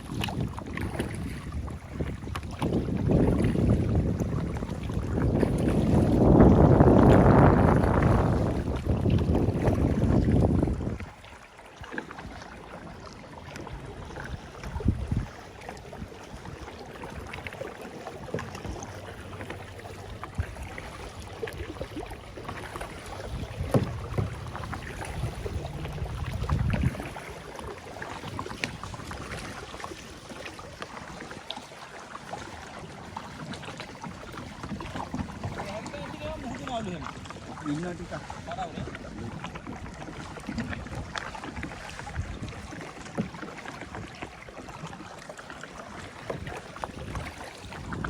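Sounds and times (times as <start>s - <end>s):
paddle splashing in water: 0.0s - 48.0s.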